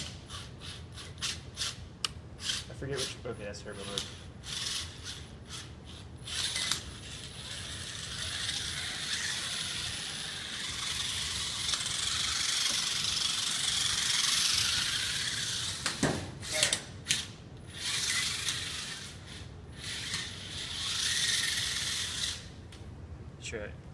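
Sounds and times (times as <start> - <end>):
small robot motors whirring: 0.0 - 1.8, 2.4 - 22.5.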